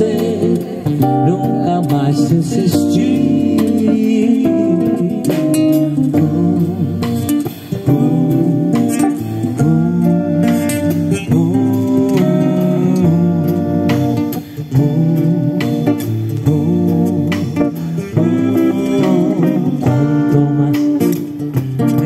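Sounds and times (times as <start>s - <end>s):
bass guitar: 0.0s - 22.0s.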